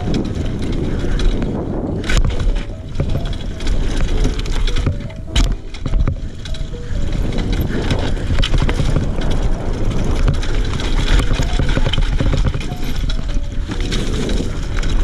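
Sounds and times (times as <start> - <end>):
bike rattling and knocking: 0.0 - 15.0
bike tyres rumbling over dirt: 0.0 - 15.0
wind buffeting microphone: 0.0 - 15.0.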